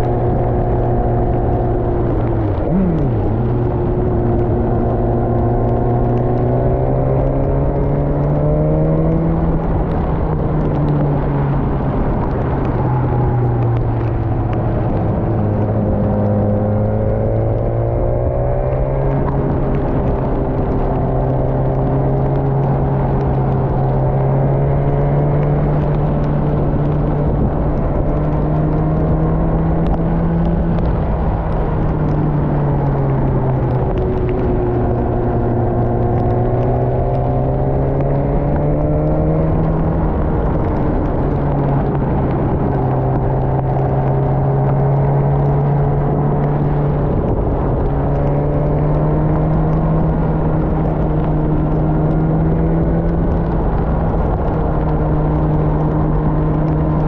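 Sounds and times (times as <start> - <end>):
motorcycle engine: 0.0 - 57.0
wind and road noise: 0.0 - 57.0.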